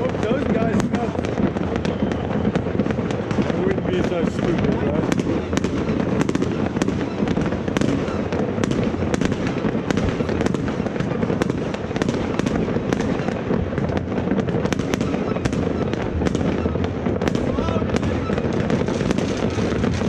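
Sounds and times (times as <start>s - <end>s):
distant fireworks bangs: 0.0s - 20.0s
nearer firework cracks: 0.0s - 20.0s.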